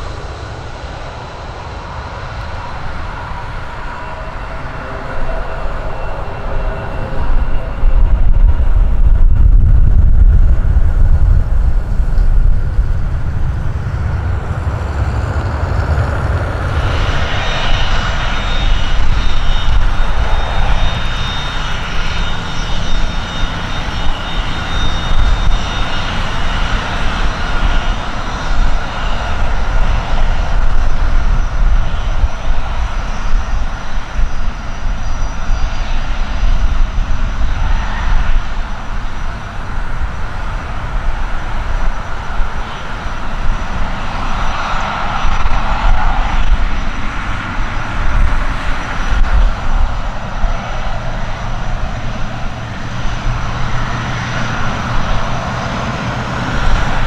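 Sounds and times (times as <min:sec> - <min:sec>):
jet engine rumble: 0:00.0 - 0:57.0
thin high jet whine: 0:00.0 - 0:57.0.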